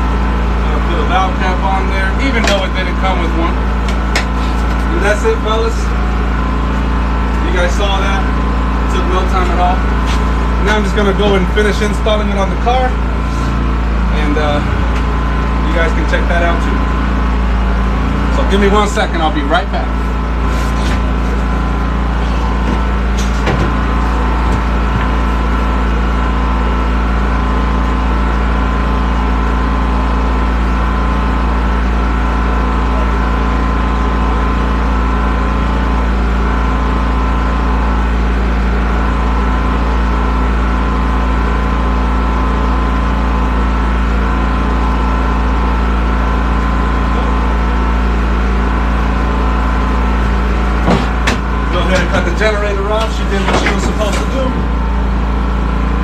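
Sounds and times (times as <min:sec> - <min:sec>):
generator engine droning: 0:00.0 - 0:56.0.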